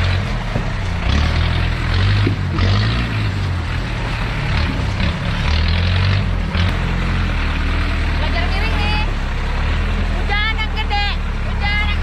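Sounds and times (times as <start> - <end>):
off-road vehicle engine under load: 0.0 - 12.0.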